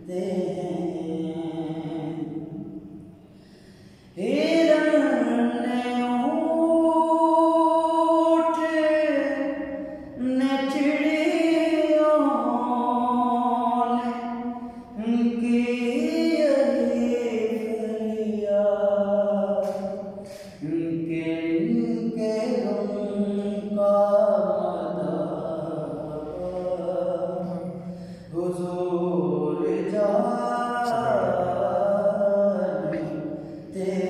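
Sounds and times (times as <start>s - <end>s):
man singing unaccompanied: 0.0s - 3.0s, 4.1s - 34.0s.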